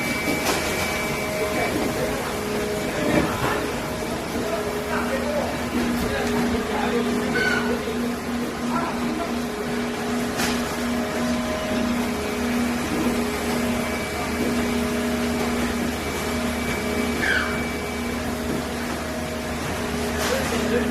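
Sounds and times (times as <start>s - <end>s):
packaging machinery hum: 0.0s - 20.9s
steady machine tones: 0.0s - 20.9s.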